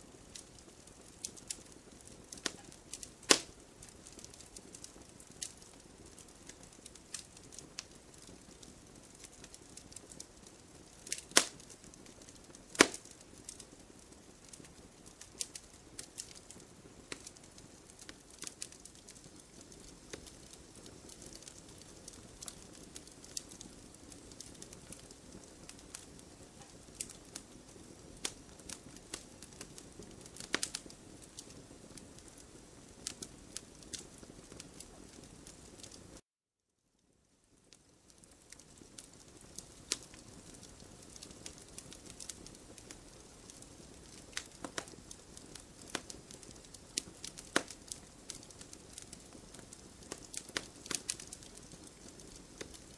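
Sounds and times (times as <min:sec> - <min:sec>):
wood fire crackling: 0:00.0 - 0:36.2, 0:37.0 - 0:52.9
loud pops from fire: 0:00.1 - 0:36.2, 0:37.6 - 0:52.9.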